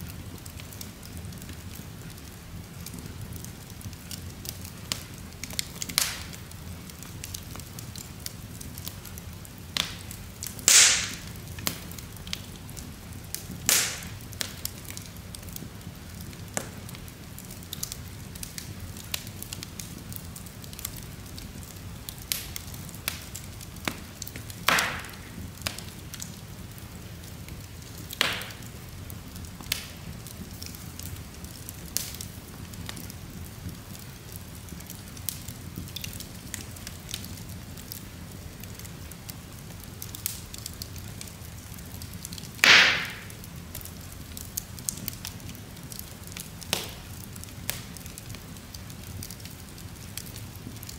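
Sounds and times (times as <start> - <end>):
fire crackling: 0.0 - 50.9
loud fire pops: 0.4 - 21.0, 21.7 - 26.4, 27.5 - 38.9, 40.0 - 50.9.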